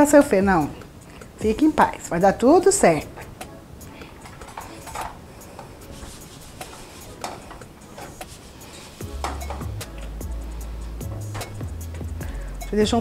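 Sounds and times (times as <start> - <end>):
low background music note: 0.0 - 13.0.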